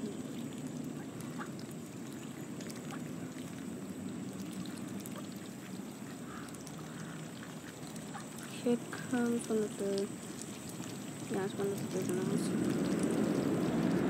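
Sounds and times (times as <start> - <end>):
small drips and clicks: 0.0 - 14.0
water splashing and trickling: 0.0 - 14.0.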